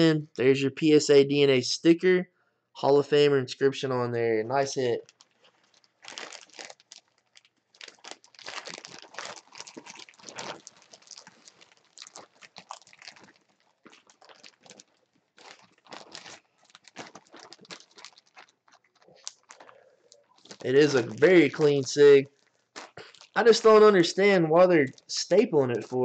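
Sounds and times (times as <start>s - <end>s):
plastic bag crinkling: 4.6s - 26.0s.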